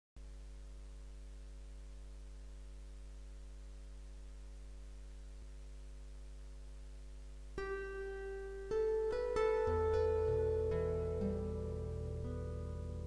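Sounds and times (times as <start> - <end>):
buzzy electrical mains hum: 0.2 - 13.0.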